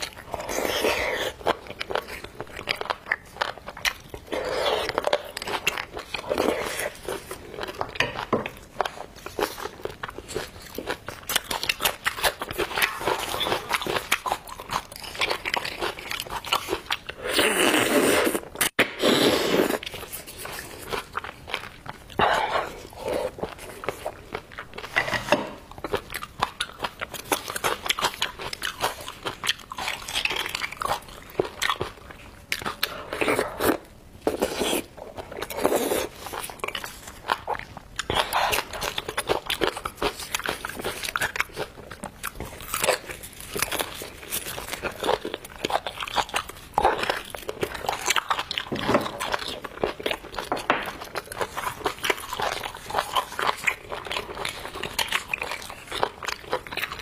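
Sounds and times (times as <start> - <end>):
biting and chewing: 0.0 - 19.0, 19.7 - 57.0.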